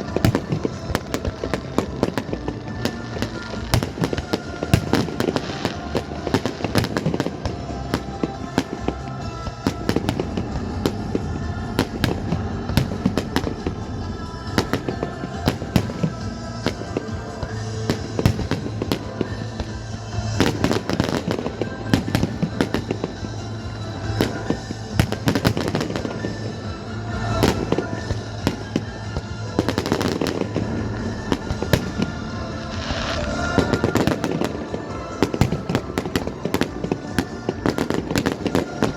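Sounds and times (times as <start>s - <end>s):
fireworks bangs and crackling: 0.0s - 38.9s
loud music: 0.0s - 38.9s.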